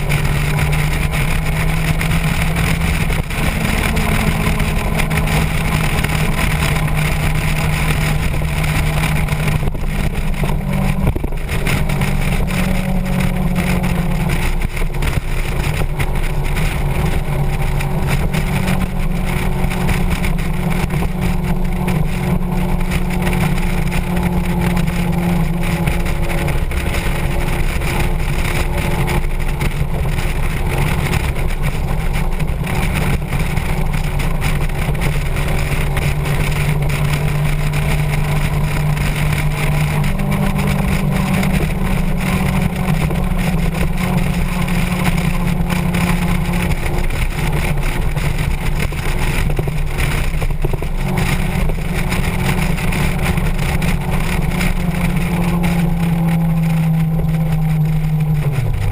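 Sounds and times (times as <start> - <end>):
motorcycle engine running: 0.0 - 58.9
wind rushing: 0.0 - 58.9.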